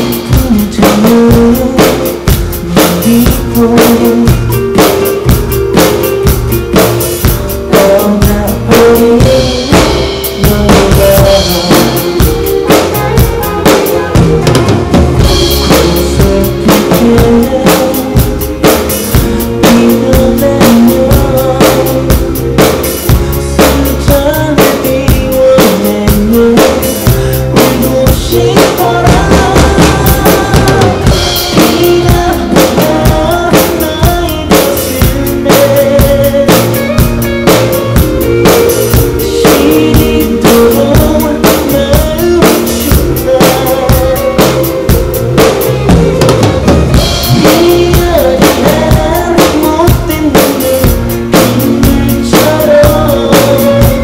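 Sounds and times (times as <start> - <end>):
drum kit playing steady beat: 0.0 - 54.0
pop song backing track: 0.0 - 54.0.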